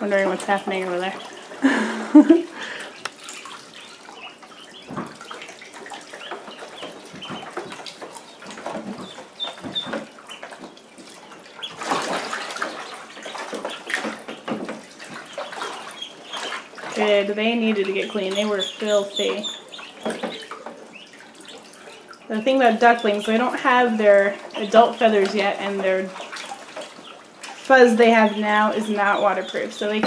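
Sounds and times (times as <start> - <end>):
water splashing in pool: 0.0 - 30.0
duckling peeps: 2.8 - 30.0.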